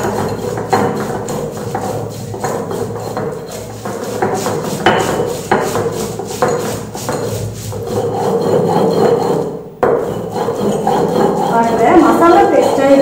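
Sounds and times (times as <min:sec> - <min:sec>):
stone roller grinding on stone slab: 0:00.0 - 0:13.0.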